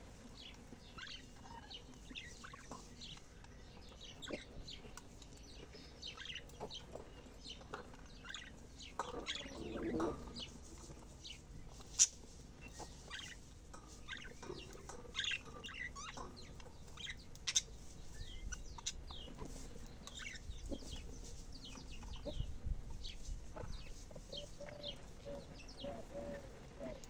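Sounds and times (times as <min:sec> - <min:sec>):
budgerigars chirping and chattering: 0:00.3 - 0:27.0.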